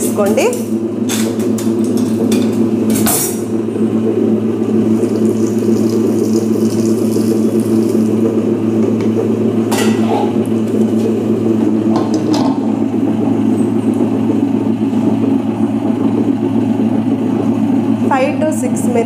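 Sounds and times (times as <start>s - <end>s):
wet grinder running: 0.0s - 19.0s.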